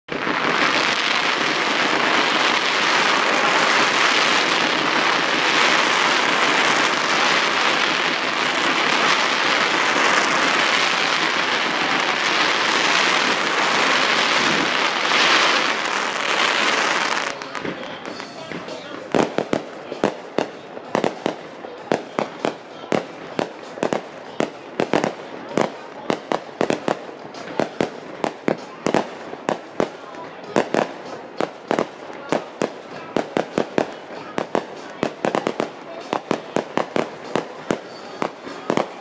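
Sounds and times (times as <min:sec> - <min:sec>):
fireworks crackling and hissing: 0:00.1 - 0:39.0.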